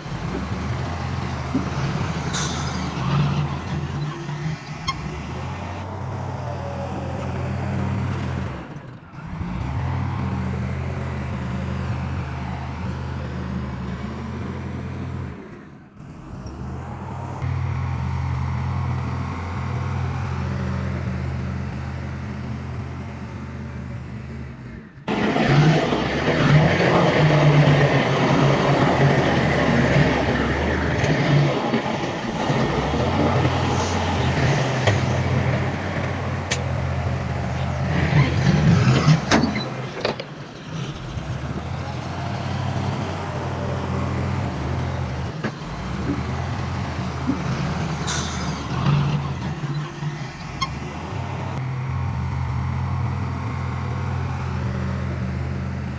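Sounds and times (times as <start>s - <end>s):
heavy diesel machinery engine drone: 0.0s - 55.9s.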